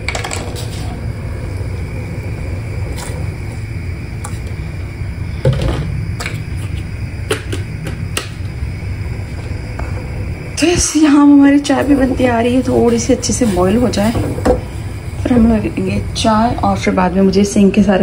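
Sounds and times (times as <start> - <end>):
gas stove burner rumble: 0.0 - 18.0.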